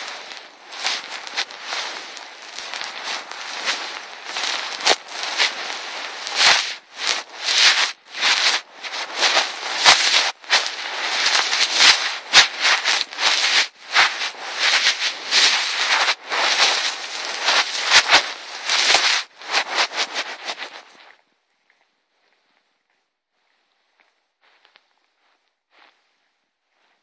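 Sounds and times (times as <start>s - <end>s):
rustling and scraping: 0.0s - 27.0s.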